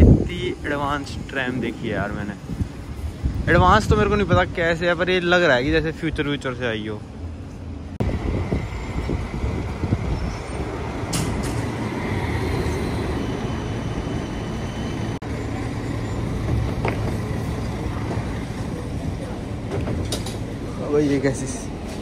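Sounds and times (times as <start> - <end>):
tram low rumble: 0.0 - 22.0.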